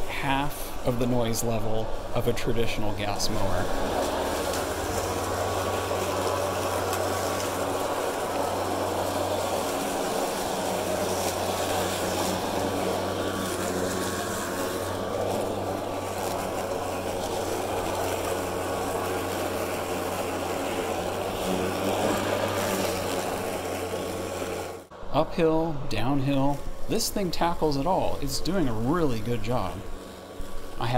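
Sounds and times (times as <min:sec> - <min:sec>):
electric lawn mower cutting grass: 0:00.0 - 0:30.9.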